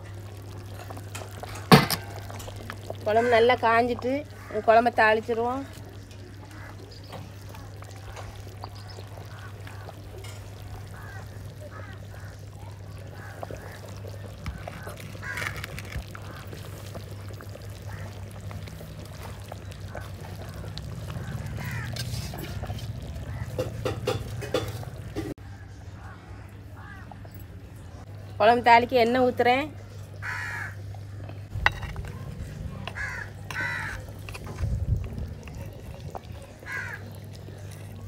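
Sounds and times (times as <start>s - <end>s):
curry bubbling in a pot: 0.0s - 25.8s, 29.8s - 38.0s
birds calling: 0.5s - 28.3s, 29.7s - 38.0s.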